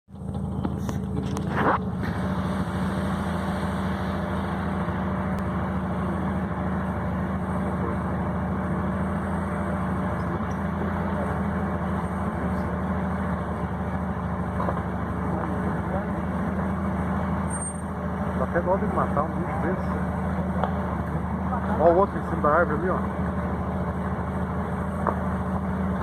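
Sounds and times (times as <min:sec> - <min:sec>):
vehicle engine idling: 0:00.1 - 0:26.0.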